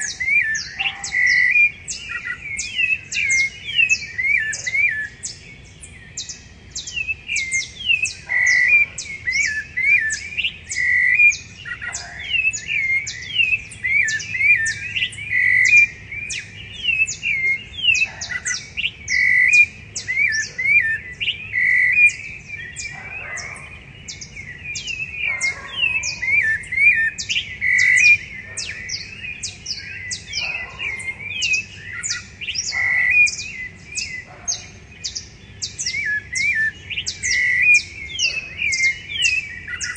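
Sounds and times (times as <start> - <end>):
thrushes singing: 0.0 - 39.9.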